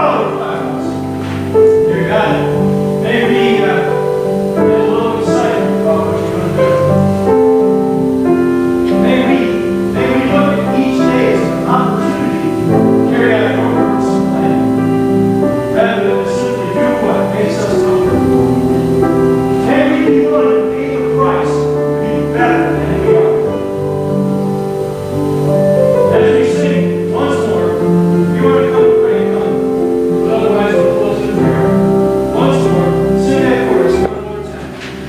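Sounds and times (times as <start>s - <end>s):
worship band playing: 0.0s - 35.0s.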